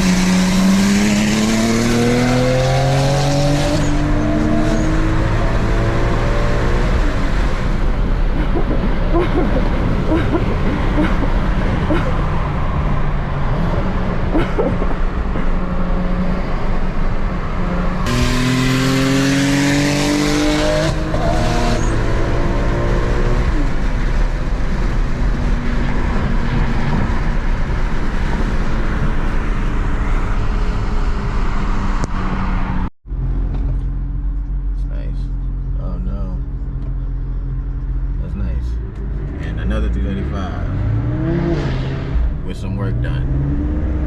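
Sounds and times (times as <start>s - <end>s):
car engine accelerating: 0.0s - 35.8s, 36.4s - 44.0s.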